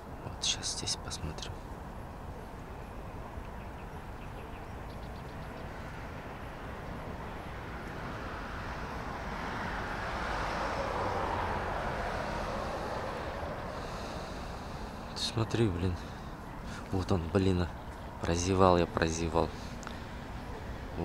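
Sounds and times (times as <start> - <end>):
vehicle passing: 1.6 - 21.0.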